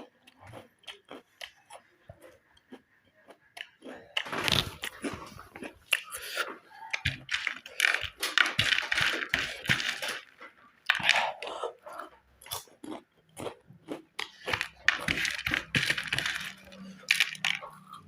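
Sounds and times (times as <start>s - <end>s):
chewing crunchy chips: 0.0s - 18.0s.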